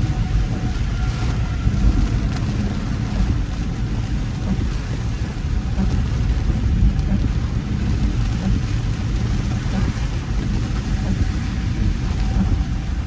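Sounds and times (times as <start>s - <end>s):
car road and wind noise: 0.0s - 13.0s
rain hissing on car: 0.0s - 13.0s.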